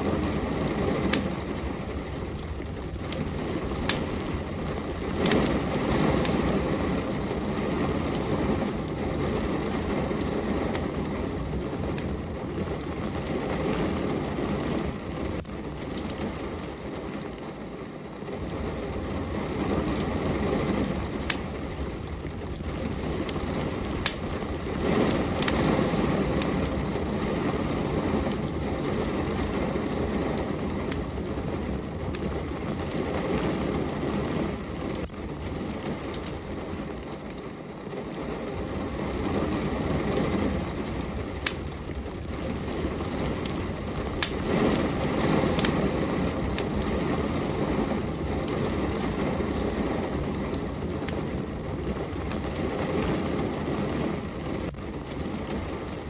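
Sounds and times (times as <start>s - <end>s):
steady rain: 0.0s - 56.0s
wood fire crackling and popping: 0.0s - 56.0s.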